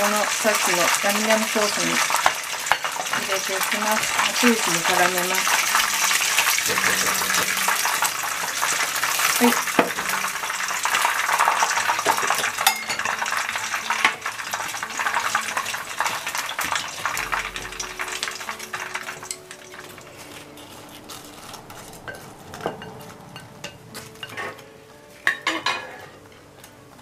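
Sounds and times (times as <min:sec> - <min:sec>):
sizzling: 0:00.0 - 0:27.0.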